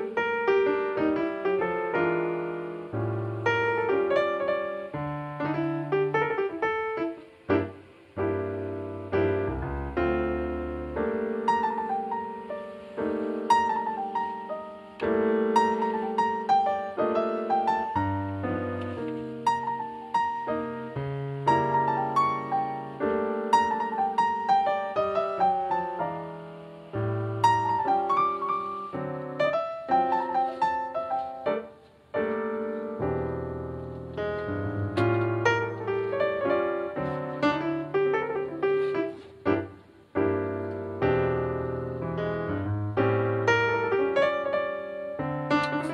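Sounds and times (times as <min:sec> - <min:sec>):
piano chords with melody: 0:00.0 - 0:45.9.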